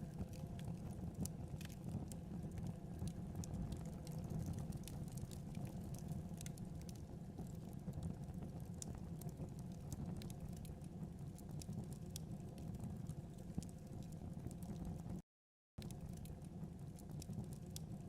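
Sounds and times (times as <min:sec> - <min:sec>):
fire crackles and pops: 0:00.0 - 0:15.2, 0:15.8 - 0:18.0
low rumble of flame: 0:00.0 - 0:15.2, 0:15.8 - 0:18.0.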